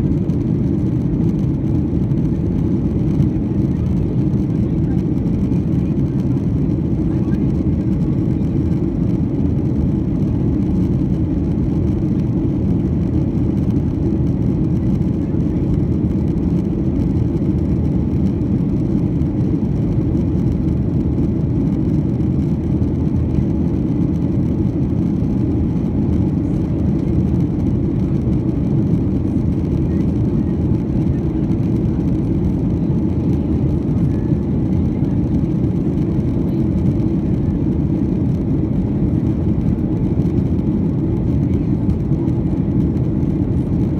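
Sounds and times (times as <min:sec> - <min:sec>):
jet engines rumbling: 0:00.0 - 0:43.9.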